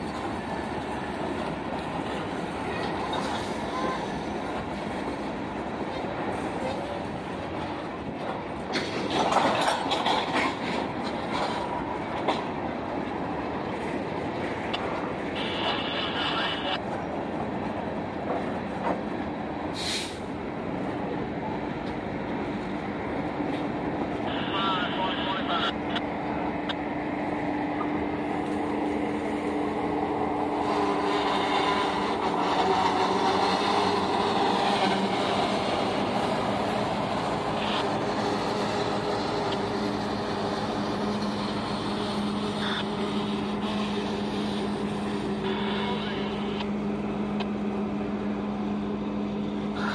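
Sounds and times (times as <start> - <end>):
train wheels rolling on rails: 0.0 - 24.5, 25.1 - 49.9
diesel locomotive engine hum: 0.0 - 49.9.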